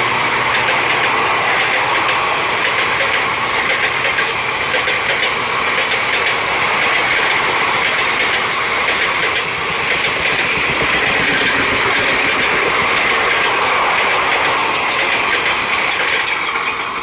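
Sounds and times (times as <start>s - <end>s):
train rushing past: 0.0s - 17.0s
wheels clattering over rail joints: 1.7s - 17.0s.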